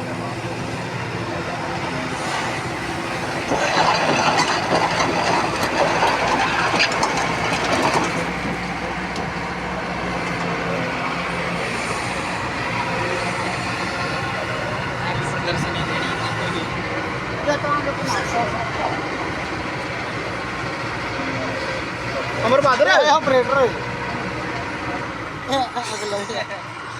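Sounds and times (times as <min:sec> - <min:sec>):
heavy diesel engine running: 0:00.0 - 0:26.9.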